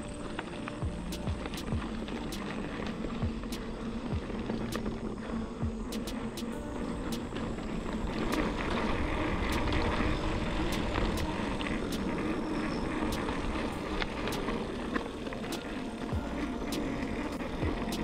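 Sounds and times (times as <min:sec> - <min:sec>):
bike ticks and rattles: 0:00.0 - 0:18.0
tyre and wind rumble: 0:00.0 - 0:18.0.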